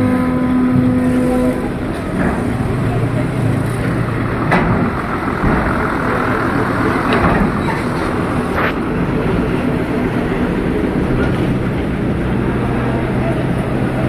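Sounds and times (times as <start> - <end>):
bus diesel engine humming: 0.0 - 14.0.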